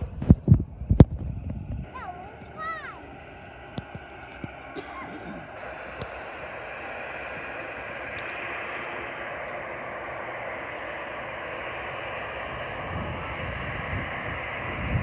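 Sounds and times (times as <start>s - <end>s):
airliner engines rushing: 0.0s - 15.0s
low rumbling: 0.0s - 15.0s.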